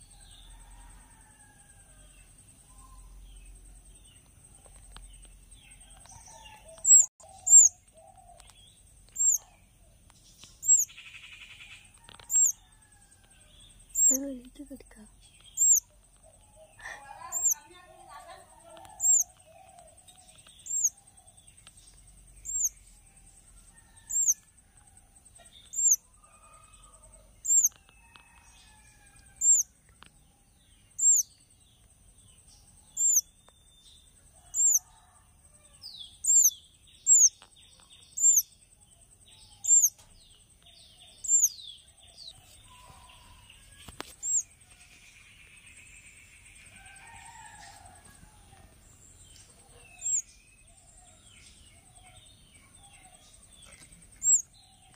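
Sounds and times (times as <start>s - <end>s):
soft bird chirps: 0.0s - 54.9s.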